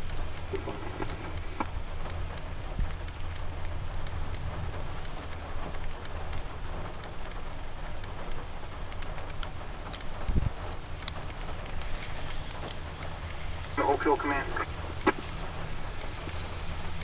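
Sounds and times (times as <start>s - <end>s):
sharp drip clicks: 0.0s - 17.0s
steady rain falling: 0.0s - 17.0s.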